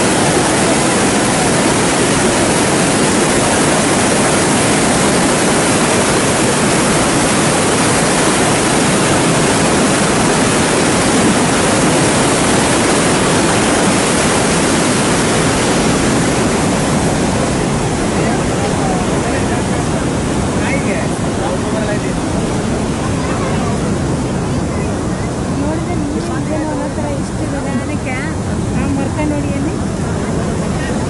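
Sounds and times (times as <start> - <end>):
floodwater rushing through spillway: 0.0 - 31.0.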